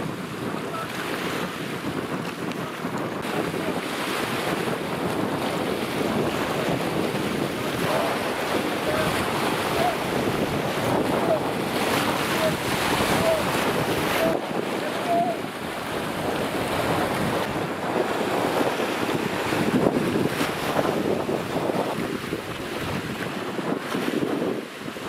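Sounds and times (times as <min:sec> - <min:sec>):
small waves washing: 0:00.0 - 0:25.0
wind buffeting microphone: 0:00.0 - 0:25.0.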